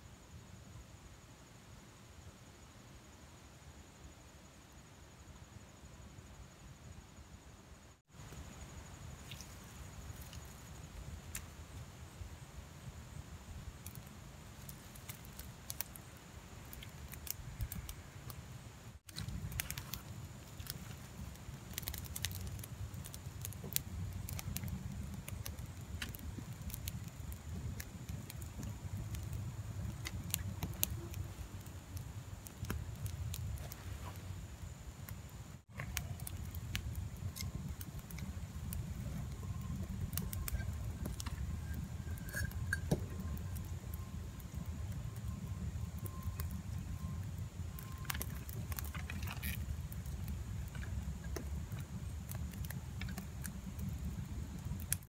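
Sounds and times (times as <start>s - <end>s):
campfire crackling and popping: 8.1s - 12.0s, 12.8s - 55.0s.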